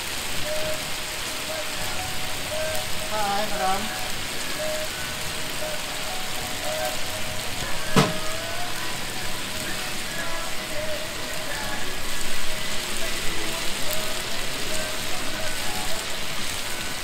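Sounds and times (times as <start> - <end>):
chicken sizzling on griddle: 0.0 - 17.0.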